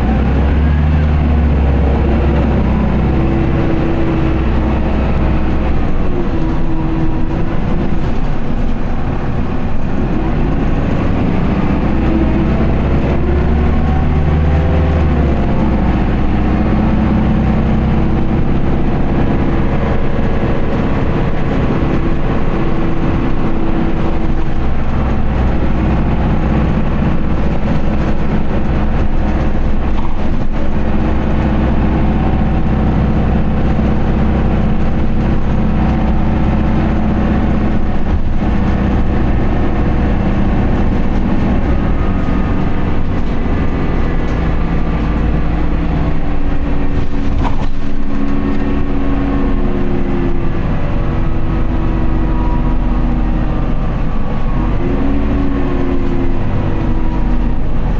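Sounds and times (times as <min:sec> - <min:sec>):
bus engine running: 0:00.0 - 0:57.9.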